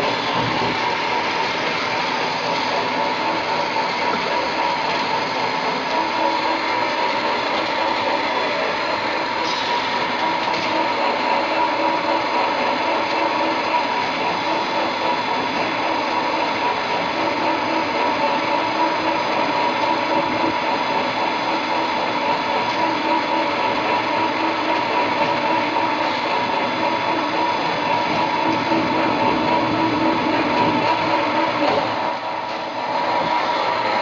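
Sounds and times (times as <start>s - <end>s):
flanging machine running with whine: 0.0s - 34.0s.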